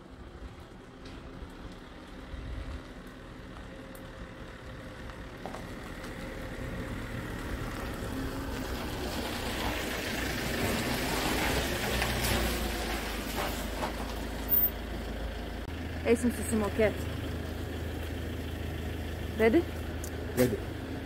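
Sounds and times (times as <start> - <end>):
van driving past: 0.0 - 21.0.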